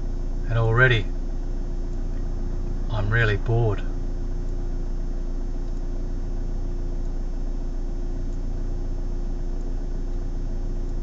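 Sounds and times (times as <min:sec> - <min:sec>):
car cabin hum and rumble: 0:00.0 - 0:11.0.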